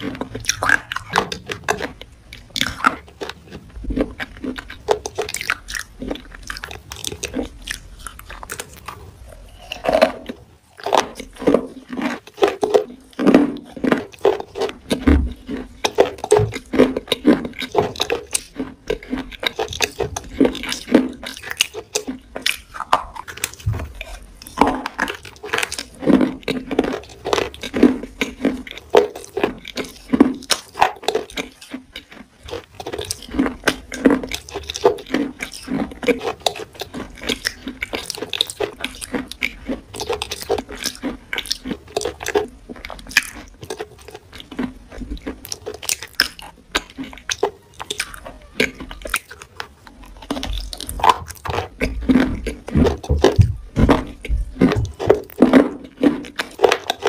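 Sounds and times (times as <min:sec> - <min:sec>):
wet crunching and chewing: 0:00.0 - 0:57.0.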